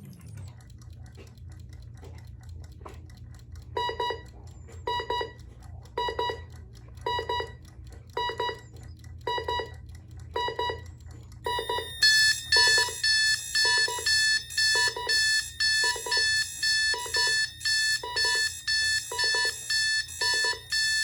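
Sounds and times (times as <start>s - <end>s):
low steady hum: 0.0s - 21.0s
alarm clock beeping: 3.6s - 21.0s.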